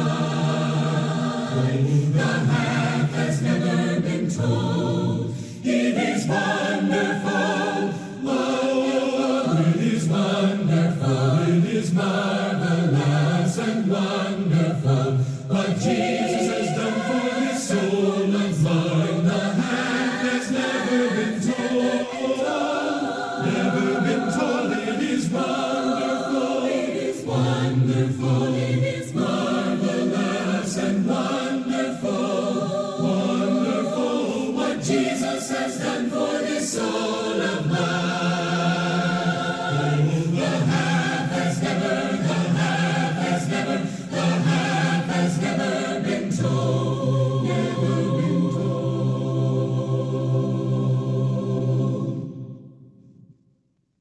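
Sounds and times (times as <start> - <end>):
choir singing held chords: 0.0 - 53.4.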